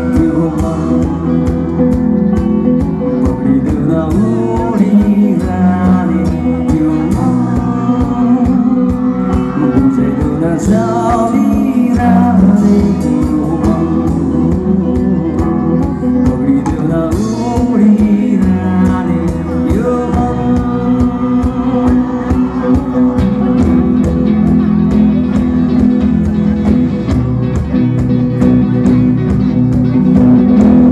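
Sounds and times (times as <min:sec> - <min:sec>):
man singing: 0:00.0 - 0:26.8
acoustic guitar: 0:00.0 - 0:30.9
drum kit steady beat: 0:00.0 - 0:30.9.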